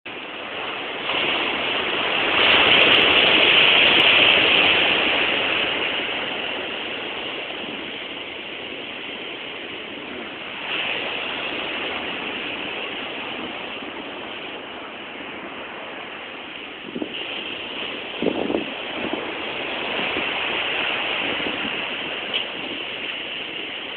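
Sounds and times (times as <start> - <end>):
ocean waves breaking: 0.1 - 23.9.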